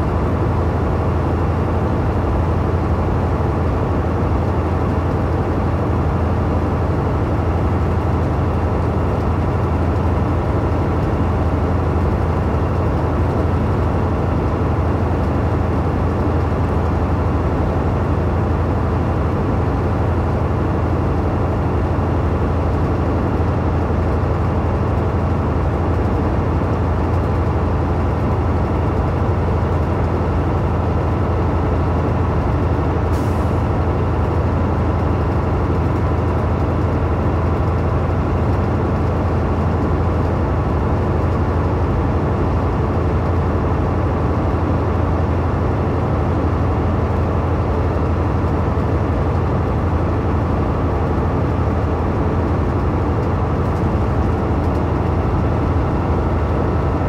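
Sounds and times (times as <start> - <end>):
diesel engine drone: 0.0 - 57.0.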